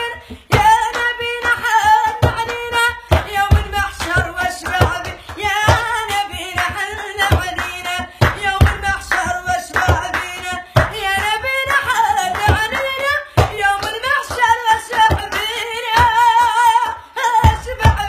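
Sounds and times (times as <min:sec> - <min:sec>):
sharp percussive beats: 0:00.0 - 0:18.0
woman singing: 0:00.0 - 0:18.0.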